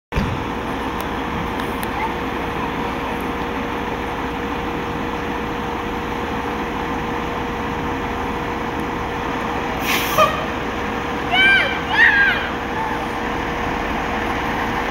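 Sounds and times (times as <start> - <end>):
diesel engine running: 0.1 - 14.9.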